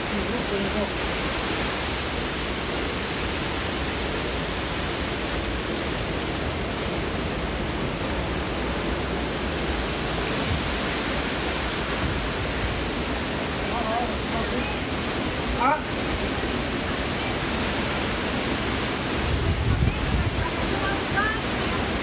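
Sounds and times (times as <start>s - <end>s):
wind and rain rushing: 0.0s - 22.0s.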